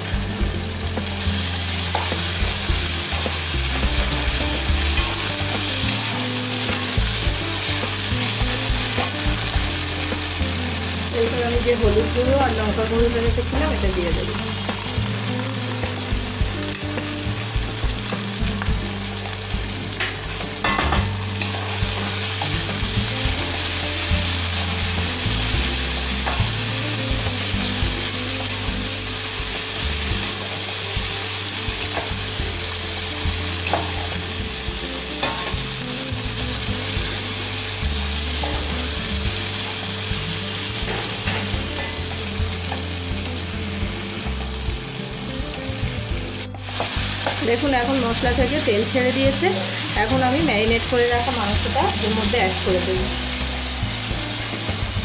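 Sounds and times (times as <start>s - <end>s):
masala sizzling in oil: 0.0s - 55.0s.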